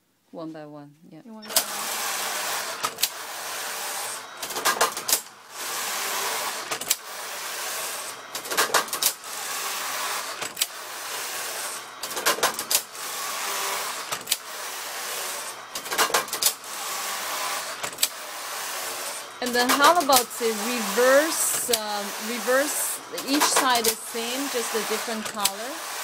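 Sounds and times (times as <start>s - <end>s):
knitting machine carriage sliding hiss: 1.4s - 26.0s.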